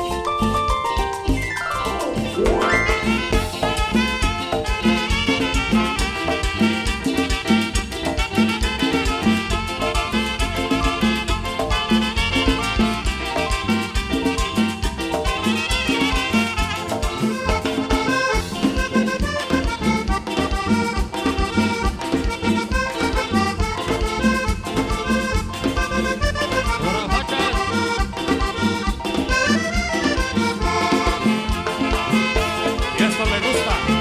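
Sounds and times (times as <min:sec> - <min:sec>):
live latin dance band: 0:00.0 - 0:34.0.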